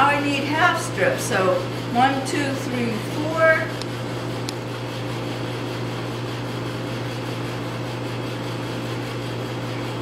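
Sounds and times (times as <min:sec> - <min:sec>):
kitchen machine hum: 0:00.0 - 0:10.0.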